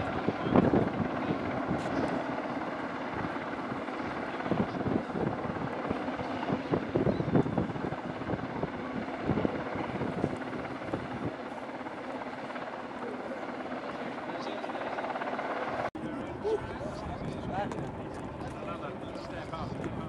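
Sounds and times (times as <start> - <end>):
helicopter hovering: 0.0 - 20.0.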